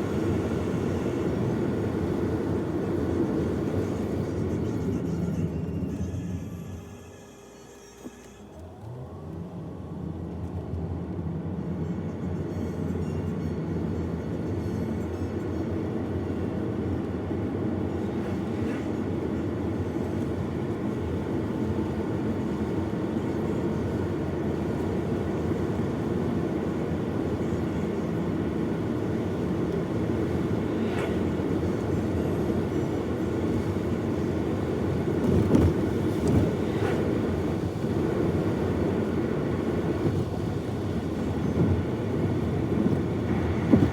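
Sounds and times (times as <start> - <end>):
vehicle rumbling from inside: 0.0 - 43.9.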